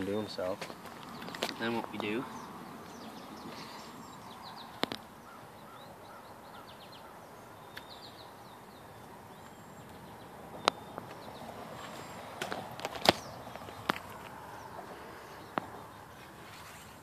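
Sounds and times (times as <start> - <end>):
outdoor background noise: 0.0 - 17.0
small birds chirping: 0.0 - 17.0.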